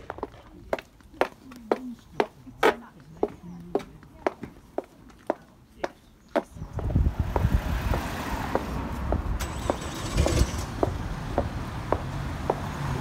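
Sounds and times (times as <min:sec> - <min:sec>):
footsteps on pavement: 0:00.0 - 0:09.8, 0:10.8 - 0:12.9
street traffic rumble: 0:00.0 - 0:13.0.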